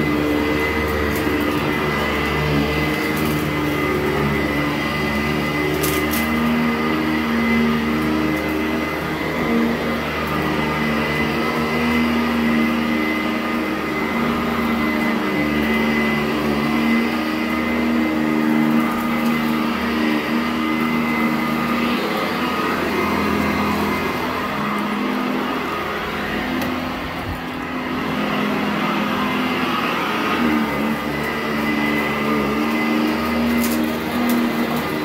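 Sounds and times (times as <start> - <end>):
vacuum cleaner running on carpet: 0.0 - 35.0.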